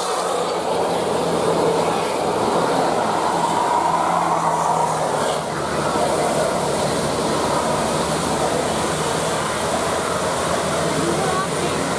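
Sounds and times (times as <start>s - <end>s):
large vehicle passing: 0.0s - 11.9s.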